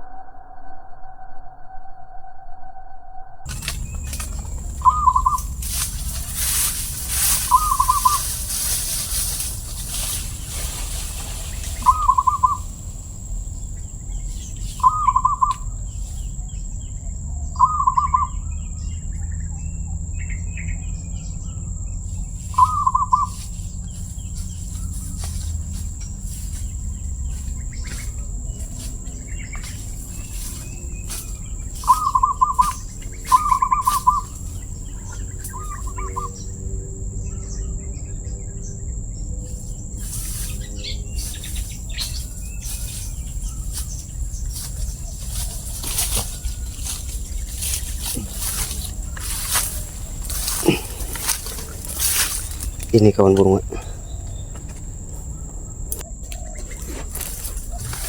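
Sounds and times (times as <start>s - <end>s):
high-pitched whine: 0.0s - 53.8s
dove cooing: 3.5s - 18.5s, 22.2s - 36.4s, 40.0s - 58.0s.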